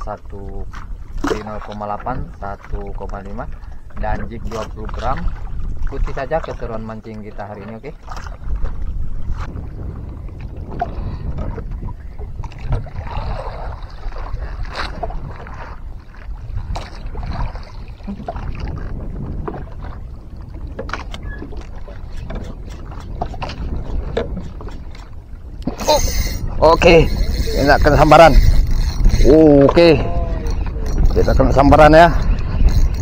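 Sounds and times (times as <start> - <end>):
water sloshing against boat hull: 0.0 - 33.0
wind on microphone: 0.0 - 33.0.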